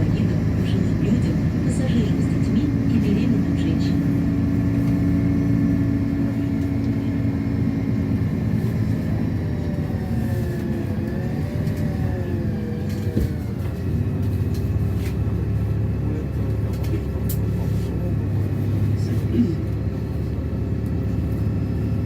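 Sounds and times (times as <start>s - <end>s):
bus engine hum: 0.0s - 22.0s.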